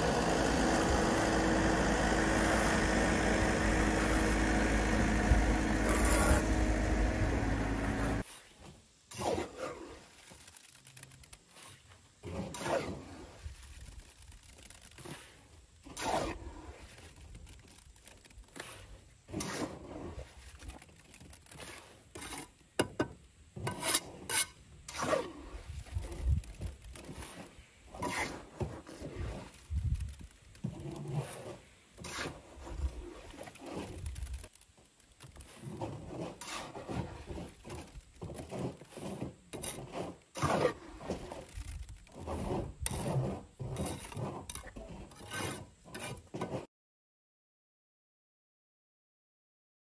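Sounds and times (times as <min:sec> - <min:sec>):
trowel scraping wet concrete: 0:00.0 - 0:46.7.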